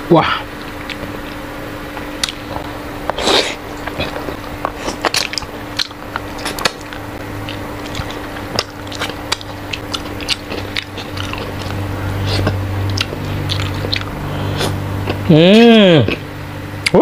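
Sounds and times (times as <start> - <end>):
steady low hum: 0.0 - 17.0
wet eating clicks and smacks: 2.0 - 16.2.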